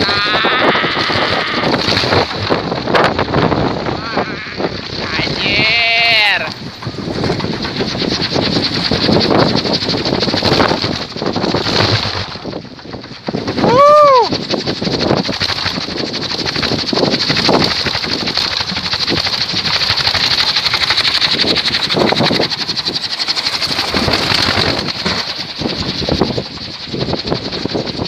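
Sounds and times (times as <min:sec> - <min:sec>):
wind propeller whirring: 0:00.0 - 0:28.0.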